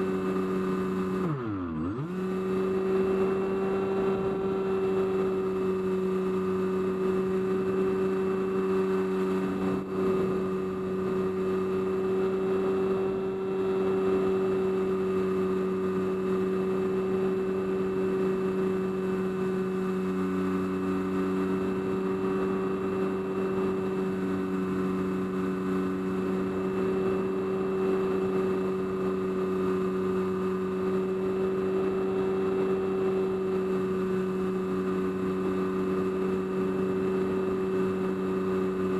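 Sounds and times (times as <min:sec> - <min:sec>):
model aircraft motor droning hum: 0:00.0 - 0:38.9.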